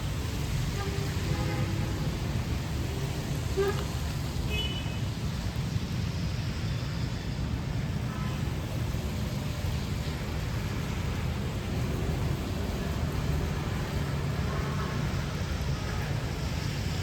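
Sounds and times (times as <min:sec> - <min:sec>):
rain hiss: 0:00.0 - 0:17.0
traffic rumble: 0:00.0 - 0:17.0.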